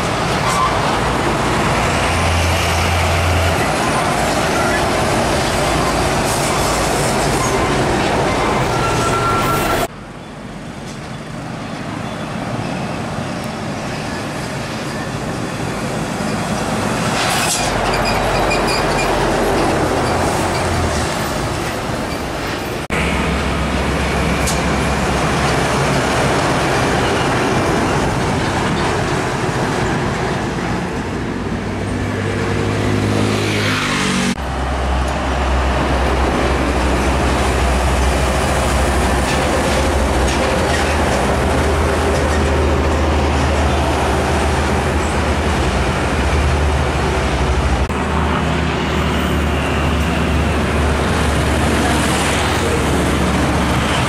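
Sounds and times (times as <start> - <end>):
heavy trucks passing: 0.0 - 54.0.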